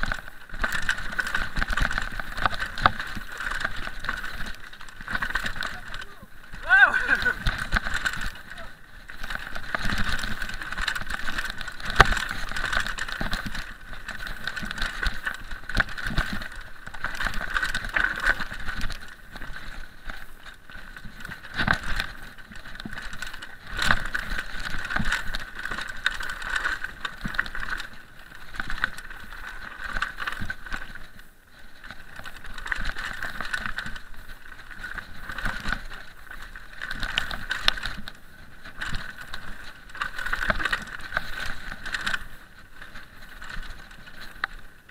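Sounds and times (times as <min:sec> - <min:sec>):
bike rattling and knocking: 0:00.0 - 0:44.9
tyres crunching over loose stones: 0:00.0 - 0:44.9.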